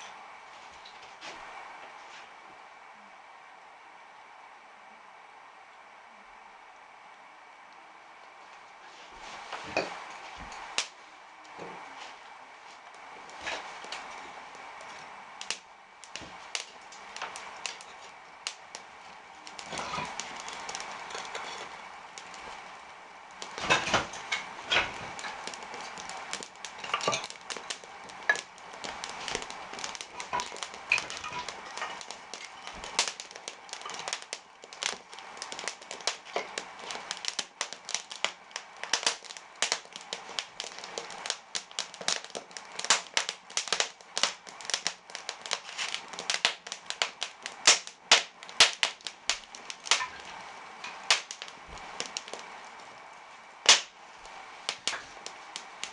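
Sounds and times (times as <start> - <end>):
firewood crackling and popping: 0.0 - 2.3, 7.5 - 55.9
flame hissing: 6.3 - 55.9.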